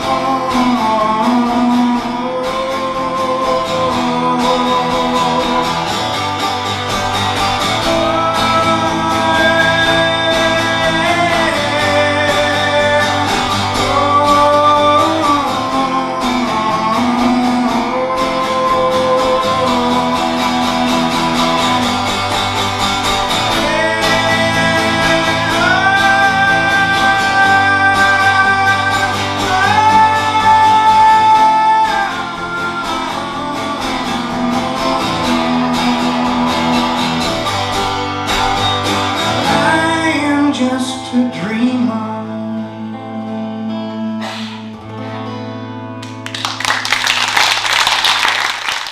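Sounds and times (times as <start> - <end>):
sliding lead guitar line: 0.0 - 48.9
strummed guitar: 0.0 - 48.9.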